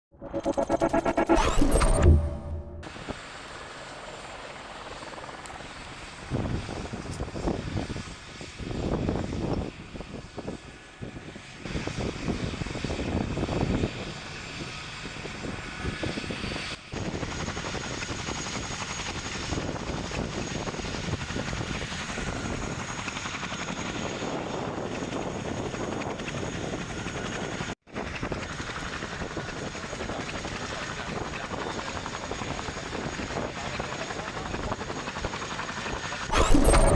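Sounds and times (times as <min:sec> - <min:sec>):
helicopter rotor and engine: 0:00.1 - 0:36.9.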